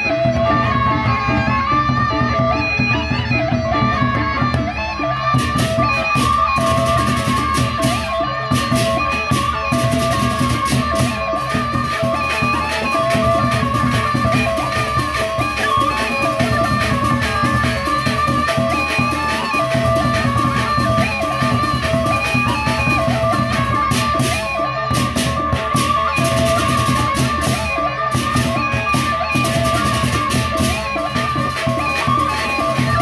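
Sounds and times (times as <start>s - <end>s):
bronze metallophones and gongs ringing: 0.0s - 33.0s
barrel drums beating: 5.4s - 33.0s.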